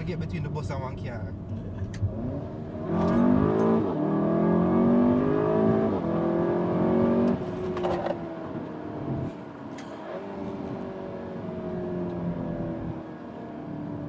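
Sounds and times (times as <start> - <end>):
car engine accelerating hard: 1.4 - 14.0.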